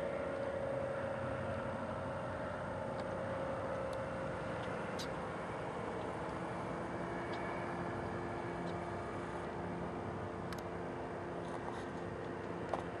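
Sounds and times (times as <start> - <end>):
small aircraft engine droning: 0.0 - 13.0.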